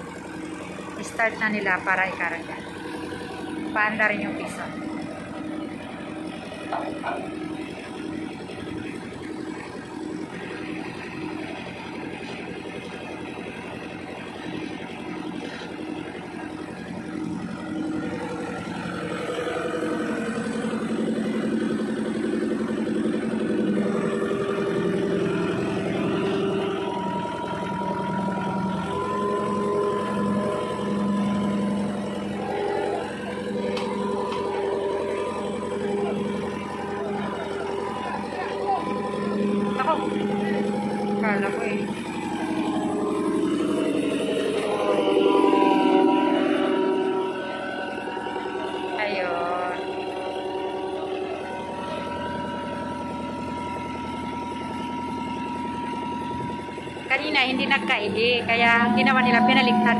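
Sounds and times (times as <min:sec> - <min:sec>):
road roller engine revving: 0:00.0 - 0:59.9
steady whine: 0:00.0 - 0:59.9.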